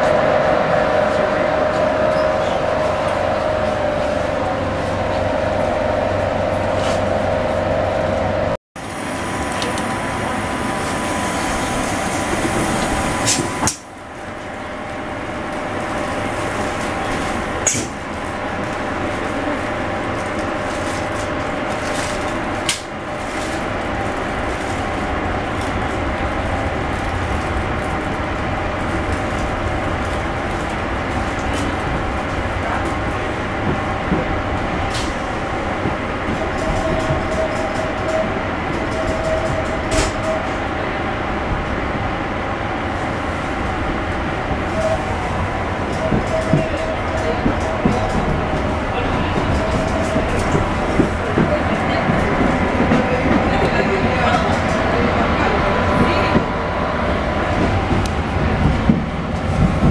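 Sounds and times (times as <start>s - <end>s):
train interior hum and rolling: 0.0s - 59.9s.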